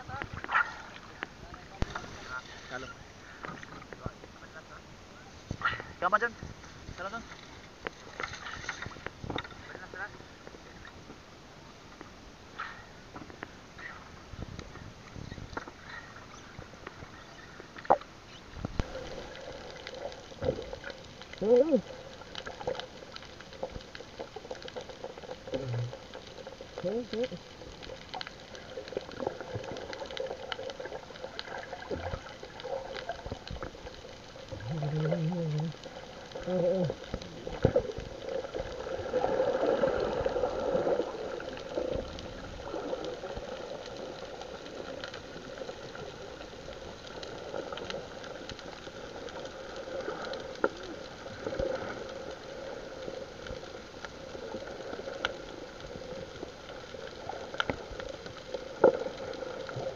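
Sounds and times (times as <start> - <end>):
sea water splashing: 0.0 - 4.7, 5.4 - 11.2, 12.5 - 59.9.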